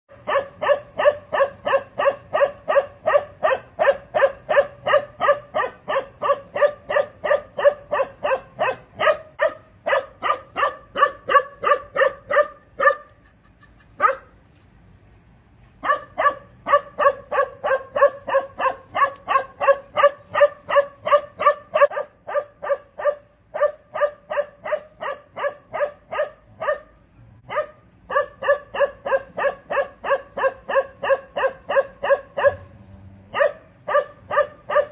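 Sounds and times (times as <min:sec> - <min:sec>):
dog barking: 0:00.2 - 0:13.2, 0:14.0 - 0:14.3, 0:15.8 - 0:26.9, 0:27.5 - 0:32.7, 0:33.3 - 0:34.9.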